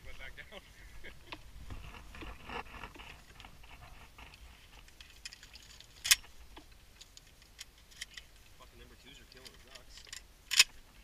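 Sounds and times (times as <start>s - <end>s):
handling clicks and rustling: 1.1s - 11.0s.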